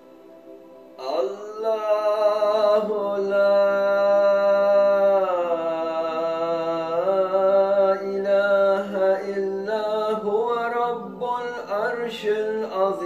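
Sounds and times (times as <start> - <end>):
man chanting into microphone: 1.0 - 13.0.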